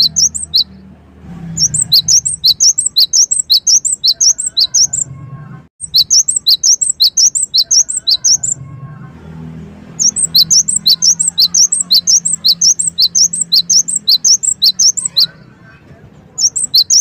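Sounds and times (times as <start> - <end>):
bird chirping song: 0.0 - 17.0.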